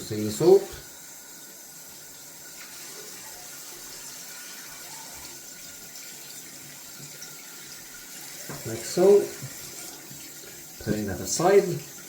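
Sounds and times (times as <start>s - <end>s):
tap water running into a sink: 0.0s - 12.0s.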